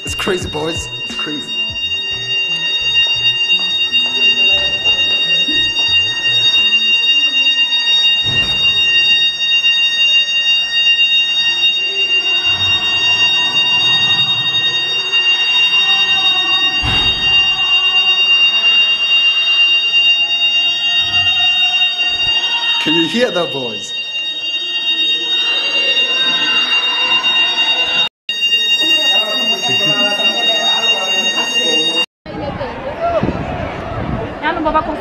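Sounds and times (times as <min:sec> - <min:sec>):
alarm high-pitched steady tone: 0:00.0 - 0:32.1.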